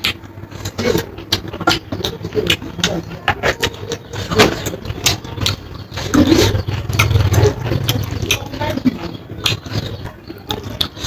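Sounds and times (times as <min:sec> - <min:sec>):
chewing with wet mouth smacks: 0:00.0 - 0:11.0.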